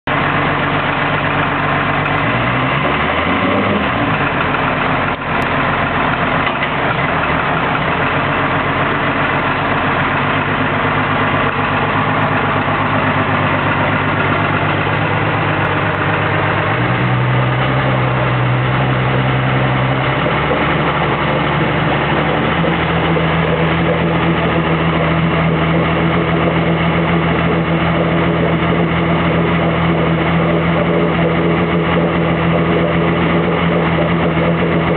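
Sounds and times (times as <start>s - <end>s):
outboard engine running: 0.0s - 34.9s.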